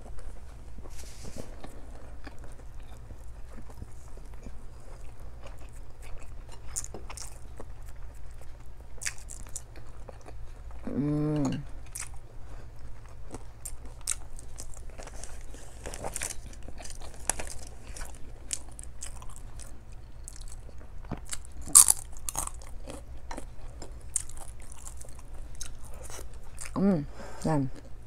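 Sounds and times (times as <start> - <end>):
wet chewing and mouth sounds: 0.0 - 26.8.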